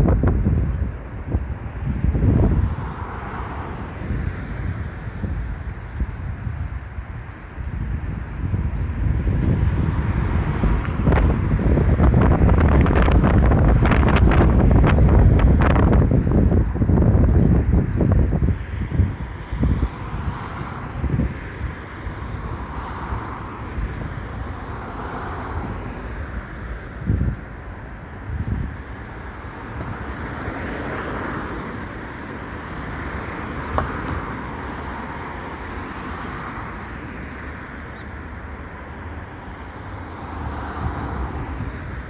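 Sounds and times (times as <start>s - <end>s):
road traffic: 0.0s - 42.0s
wind buffeting microphone: 0.0s - 42.0s.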